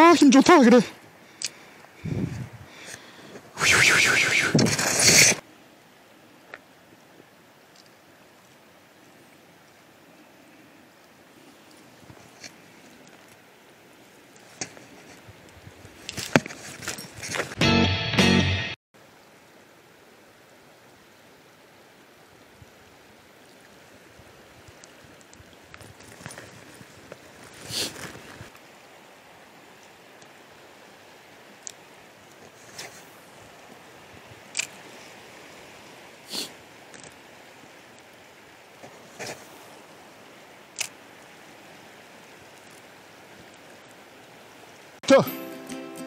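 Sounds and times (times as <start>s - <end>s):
river water running over riffle: 0.0s - 17.6s, 19.0s - 46.0s.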